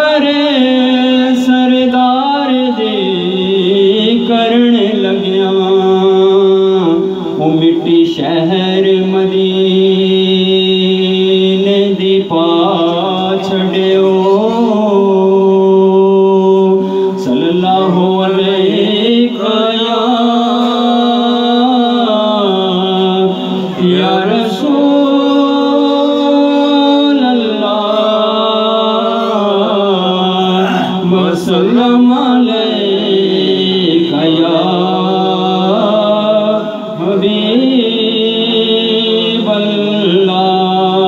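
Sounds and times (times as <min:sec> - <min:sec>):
man singing into a microphone: 0:00.0 - 0:41.0.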